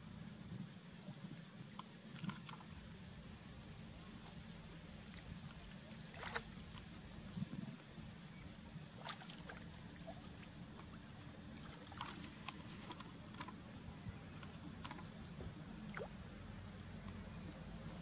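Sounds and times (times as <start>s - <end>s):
pond water sloshing: 1.5s - 18.0s.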